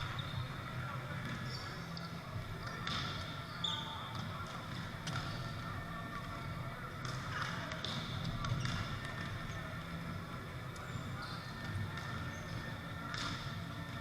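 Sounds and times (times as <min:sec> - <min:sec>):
murmur of gym: 0:00.0 - 0:14.0.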